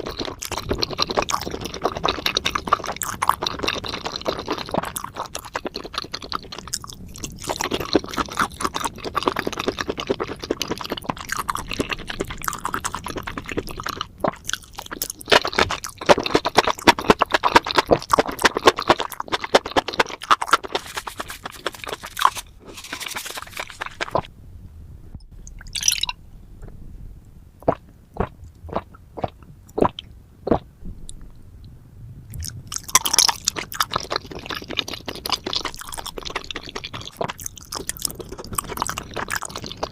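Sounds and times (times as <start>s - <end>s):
wet chewing: 0.0s - 24.3s, 27.6s - 31.2s, 32.3s - 39.9s.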